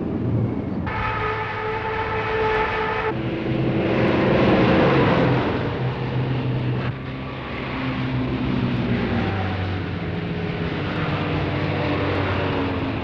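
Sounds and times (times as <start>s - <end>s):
truck driving by: 0.0s - 13.0s.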